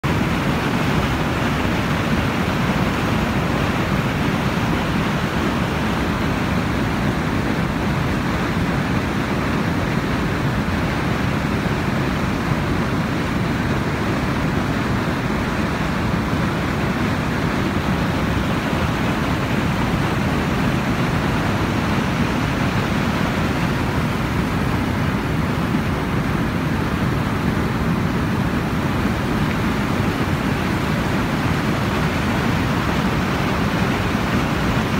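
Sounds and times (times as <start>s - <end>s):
floodwater rushing and churning: 0.0s - 34.9s.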